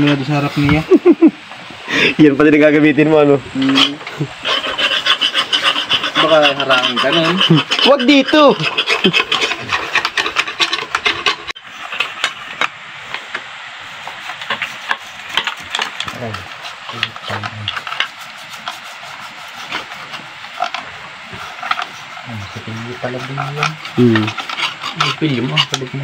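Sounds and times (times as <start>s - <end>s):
screwdriver scraping engine: 3.6s - 12.7s, 14.2s - 26.0s.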